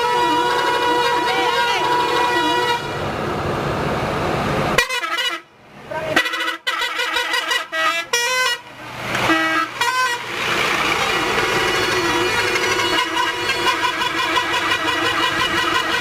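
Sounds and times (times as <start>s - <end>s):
musical bus air horn: 0.0s - 3.0s, 4.8s - 16.0s.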